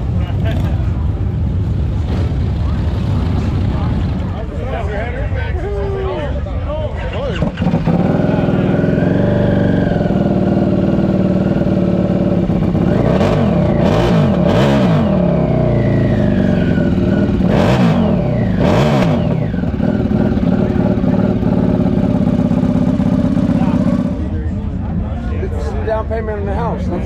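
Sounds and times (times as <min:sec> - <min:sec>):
motorcycle engines revving: 0:00.0 - 0:25.8.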